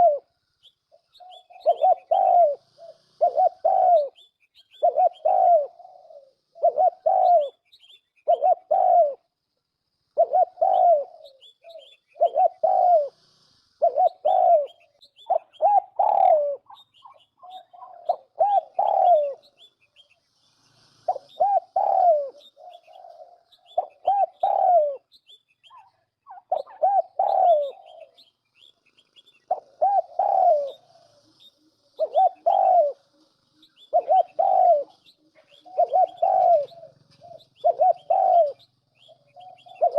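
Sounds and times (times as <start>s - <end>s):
dove cooing: 0.0s - 9.4s, 10.1s - 20.2s, 20.8s - 28.4s, 29.0s - 39.9s
small birds chirping: 0.0s - 39.9s.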